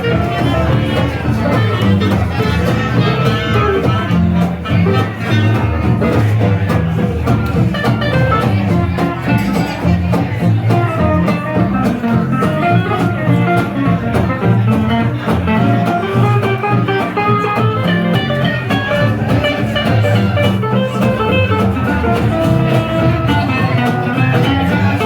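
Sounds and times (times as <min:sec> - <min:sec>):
jazz band playing swing: 0:00.0 - 0:25.0
jazz guitar: 0:00.0 - 0:25.0.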